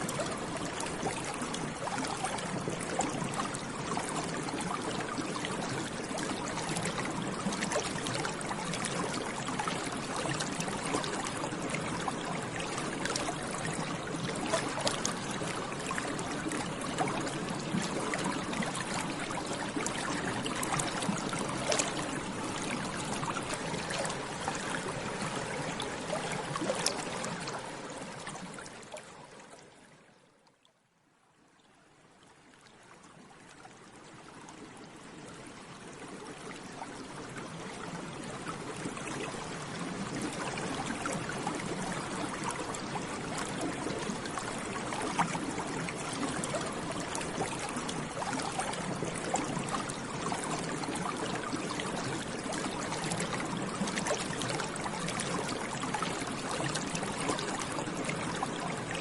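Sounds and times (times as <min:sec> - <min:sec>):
bubbles bubbling in water: 0:00.0 - 0:29.1, 0:36.0 - 0:59.0.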